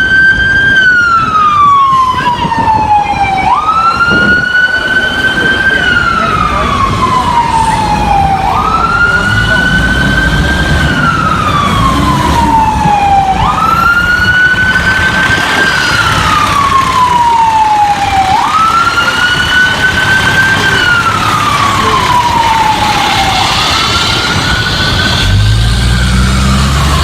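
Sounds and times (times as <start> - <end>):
fire truck siren wailing: 0.0 - 27.0
engine rumble: 1.4 - 27.0.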